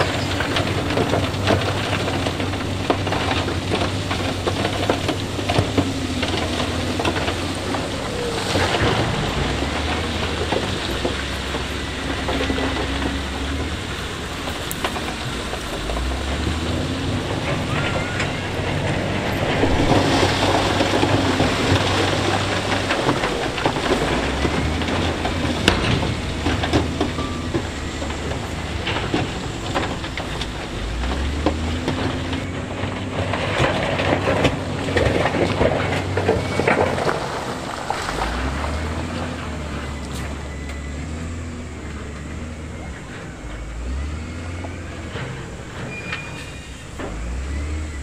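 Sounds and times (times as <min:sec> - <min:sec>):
diesel engine under load: 0:00.0 - 0:48.0
gravel being pushed and scraped: 0:00.0 - 0:48.0.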